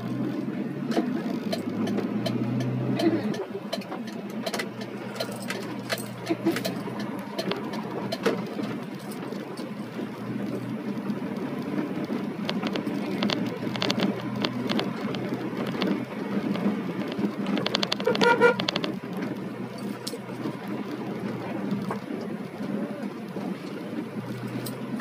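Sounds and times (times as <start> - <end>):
engine and tyre hum: 0.0 - 25.0
scattered clicks: 0.9 - 21.0.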